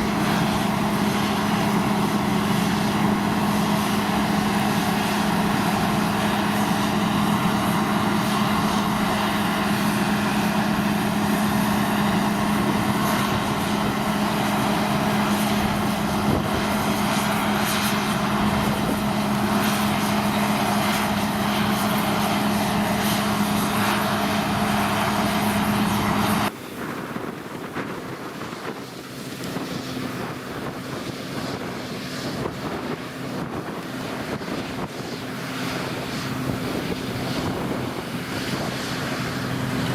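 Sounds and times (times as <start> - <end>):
combine harvester droning: 0.0 - 39.9
wind on microphone: 0.0 - 39.9.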